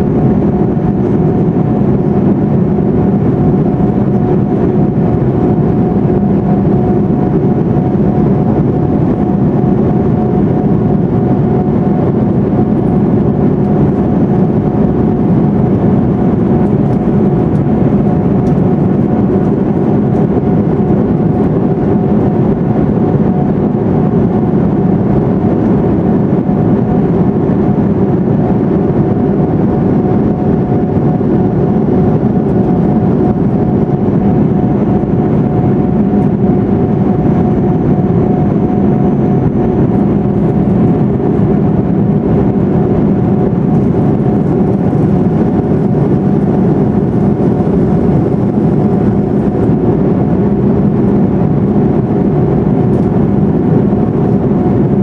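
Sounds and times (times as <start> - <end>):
constant cabin hum: 0.0 - 55.0
jet engines droning: 0.0 - 55.0.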